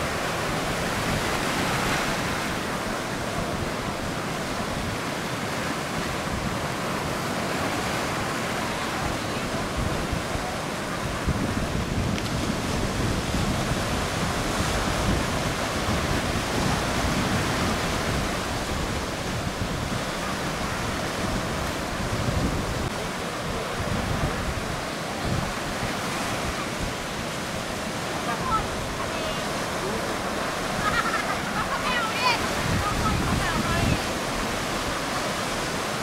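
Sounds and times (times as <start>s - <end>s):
sea surf breaking: 0.0s - 36.0s
wind buffeting microphone: 0.0s - 36.0s.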